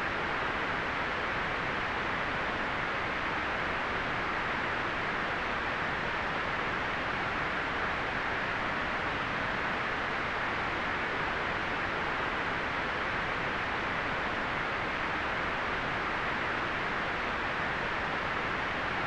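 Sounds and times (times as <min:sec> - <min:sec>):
white noise hiss: 0:00.0 - 0:19.0.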